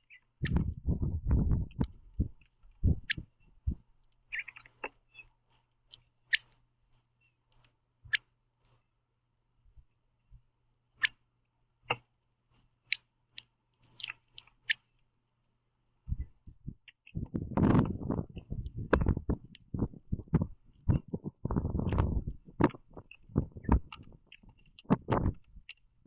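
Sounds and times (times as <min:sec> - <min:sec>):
faint steady hum: 0:00.0 - 0:26.0
bird pecking seeds ticking: 0:01.5 - 0:08.9, 0:11.8 - 0:15.6, 0:16.2 - 0:26.0.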